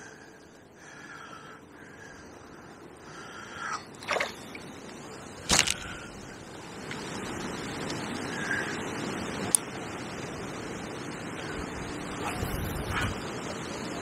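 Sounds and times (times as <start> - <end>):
gusting wind: 0.0 - 14.0.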